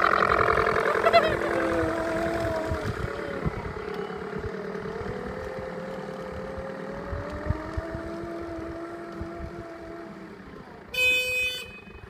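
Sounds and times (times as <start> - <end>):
simulated engine sound: 0.0 - 10.9.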